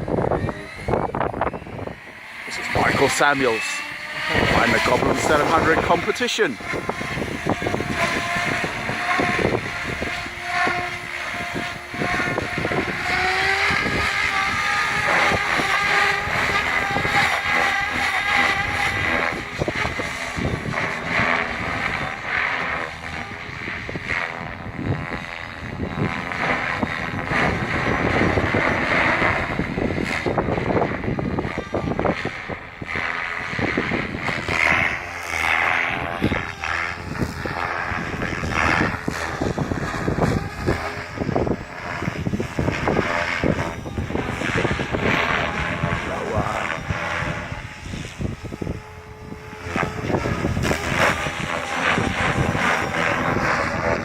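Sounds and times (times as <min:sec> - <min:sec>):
rc helicopter motor whine: 0:00.0 - 0:54.0
rotor whirring: 0:00.0 - 0:54.0
wind buffeting microphone: 0:00.0 - 0:54.0.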